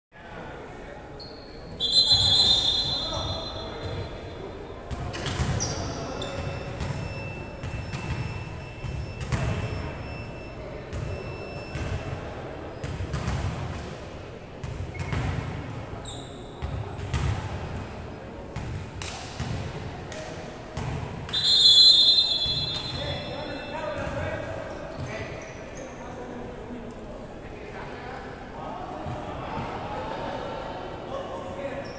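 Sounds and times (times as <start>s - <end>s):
players' voices: 0.2s - 31.9s.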